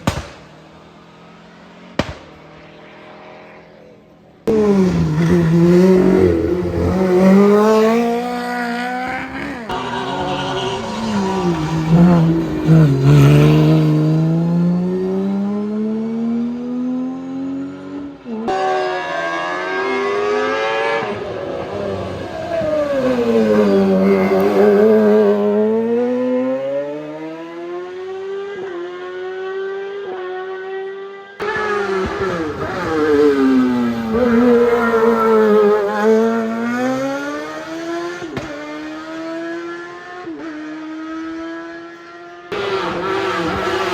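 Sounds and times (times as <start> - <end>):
race car engine revving: 4.4 - 43.9.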